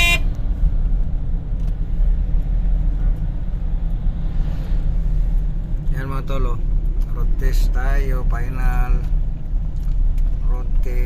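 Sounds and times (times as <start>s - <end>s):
road noise: 0.0s - 11.0s
truck diesel engine rumble: 0.0s - 11.0s.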